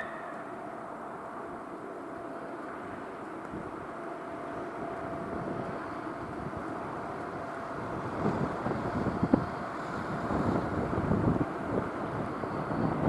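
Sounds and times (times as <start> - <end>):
electric locomotive droning whine: 0.0 - 13.0.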